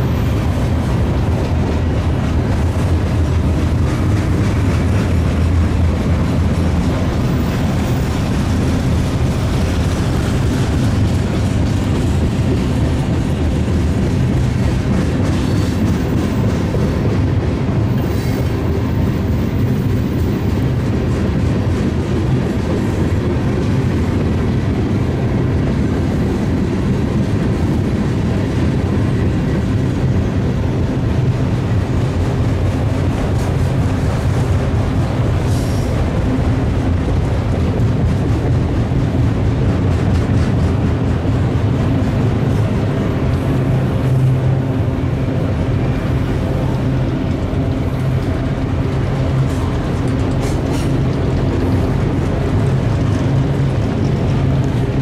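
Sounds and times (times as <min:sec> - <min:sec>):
freight train wheels rumbling: 0:00.0 - 0:55.0
wheels clicking over rails: 0:00.0 - 0:55.0.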